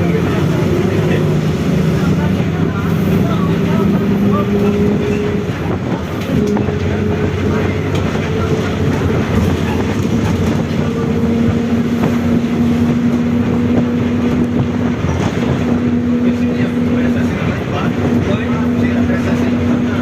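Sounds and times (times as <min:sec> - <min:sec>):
bus differential whining: 0:00.0 - 0:20.0
engine and road noise: 0:00.0 - 0:20.0.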